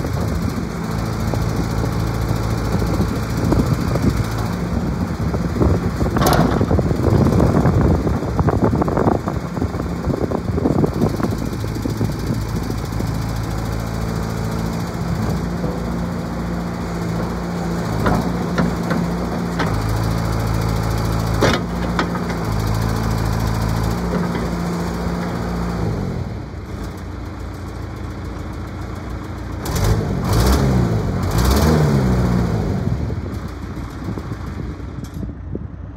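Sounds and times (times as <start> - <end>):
diesel engine under load: 0.0 - 35.9.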